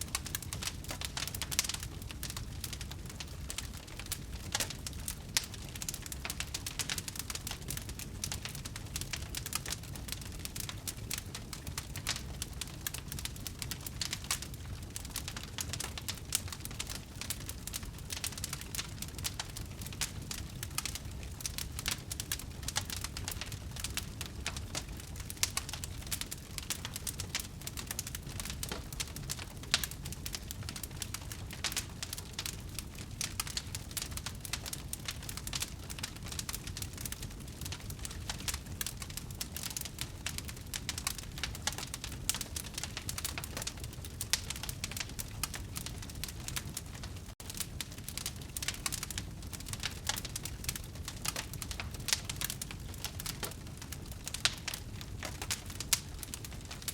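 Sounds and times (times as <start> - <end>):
low fire rumble: 0.0 - 56.9
wood fire crackling: 0.0 - 56.9.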